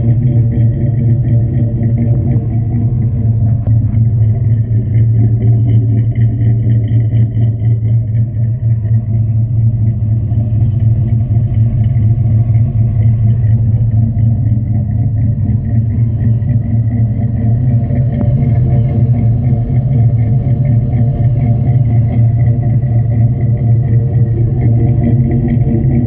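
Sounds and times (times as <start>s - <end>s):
engine idling with deep exhaust rumble: 0.0s - 26.0s.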